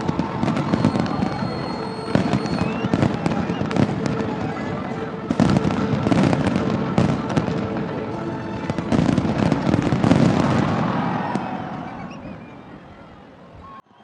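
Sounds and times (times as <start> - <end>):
fireworks bangs and crackles: 0.0 - 13.7.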